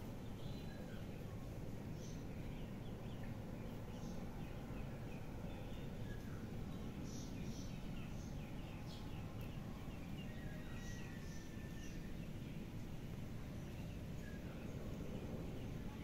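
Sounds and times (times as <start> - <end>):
low background noise: 0.0 - 16.0
small birds chirping: 0.0 - 16.0.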